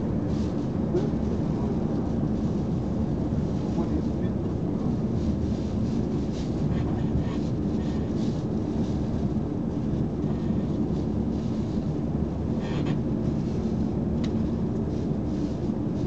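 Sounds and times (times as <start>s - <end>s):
train rumbling inside carriage: 0.0s - 16.0s.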